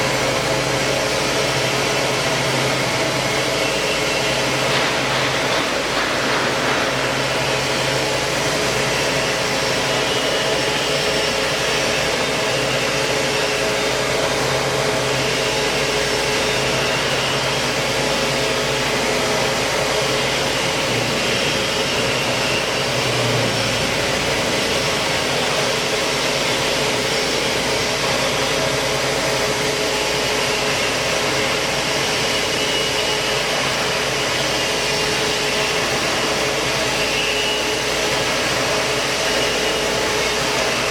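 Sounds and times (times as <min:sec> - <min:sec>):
band saw cutting steel: 0:00.0 - 0:40.9.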